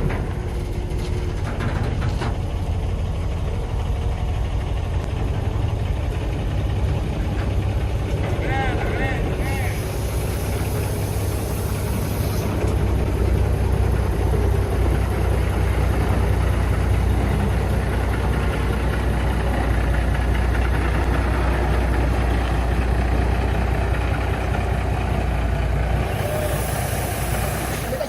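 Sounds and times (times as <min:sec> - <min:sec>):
heavy engine running: 0:00.0 - 0:28.0.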